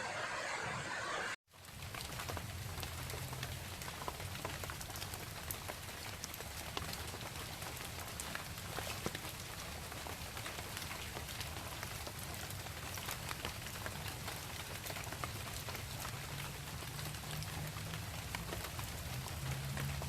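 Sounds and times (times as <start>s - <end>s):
rain falling on leaves: 1.5s - 20.0s.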